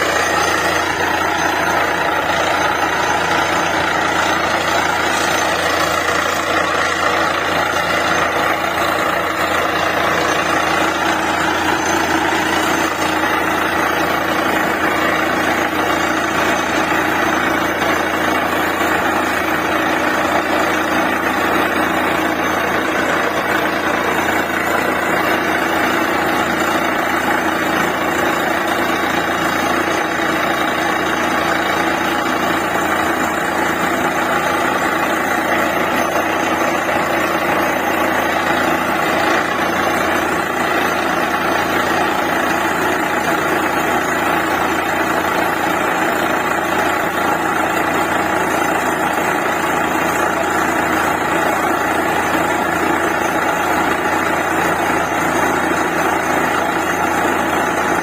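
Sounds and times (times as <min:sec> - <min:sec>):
drilling rig running: 0:00.0 - 0:58.0.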